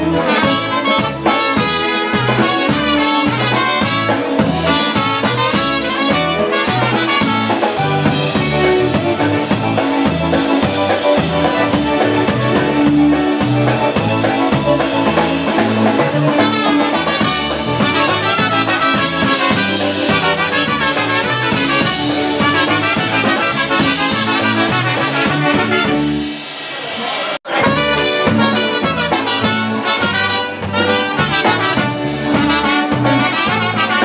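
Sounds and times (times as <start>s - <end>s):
electric bass guitar: 0.0s - 26.5s, 27.5s - 34.0s
piano accordion: 0.0s - 26.6s, 27.4s - 34.0s
concertina: 0.0s - 34.0s
drum kit steady beat: 0.0s - 34.0s.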